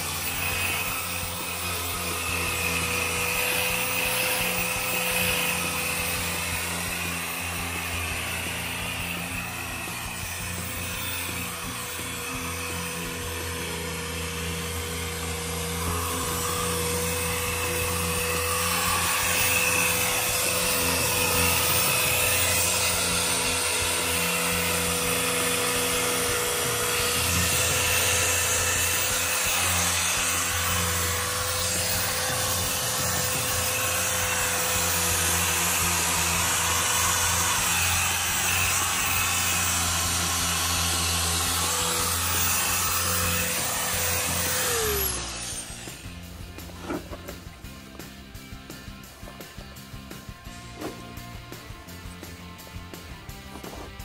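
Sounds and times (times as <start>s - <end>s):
small electric motor running: 0.0s - 54.0s.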